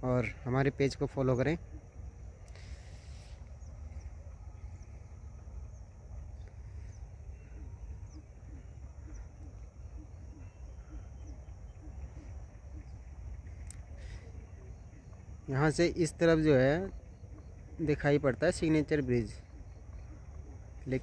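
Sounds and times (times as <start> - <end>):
faint bird chirps: 0.0 - 21.0
steady low rumble: 0.0 - 21.0.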